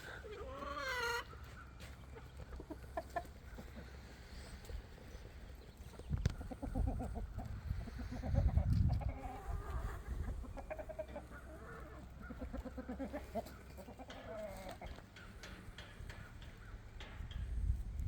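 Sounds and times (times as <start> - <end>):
hens clucking: 0.0 - 17.4.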